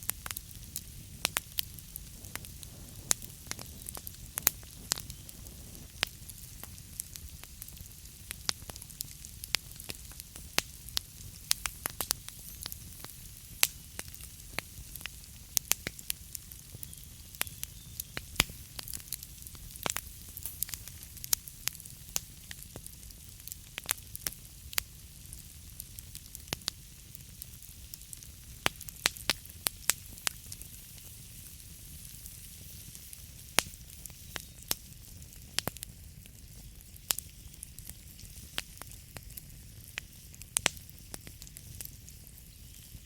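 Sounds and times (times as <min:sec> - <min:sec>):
fire low rumble and hiss: 0:00.0 - 0:43.0
logs crackling and popping: 0:00.0 - 0:43.0.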